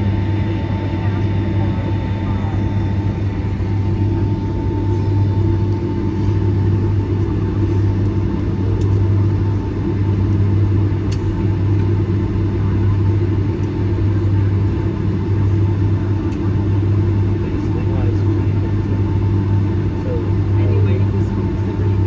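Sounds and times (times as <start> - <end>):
aircraft cabin rumble: 0.0 - 22.0.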